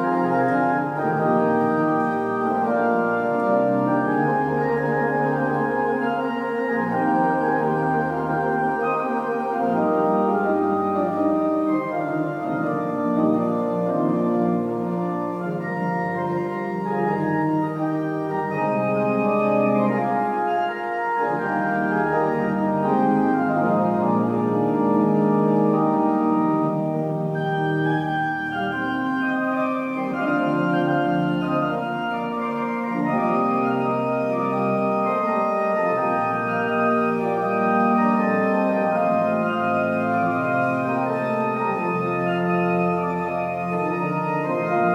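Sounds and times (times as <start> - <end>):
organ playing sustained chords: 0.0 - 44.9.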